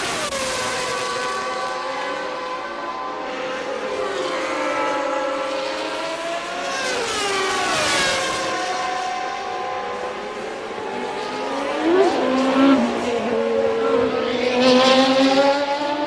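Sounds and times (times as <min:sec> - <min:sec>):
race car engines at high revs: 0:00.0 - 0:16.0
race car passing by: 0:00.0 - 0:16.0.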